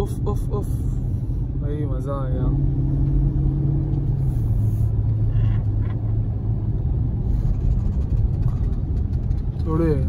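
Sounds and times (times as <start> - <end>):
car engine drone inside cabin: 0.0 - 10.0.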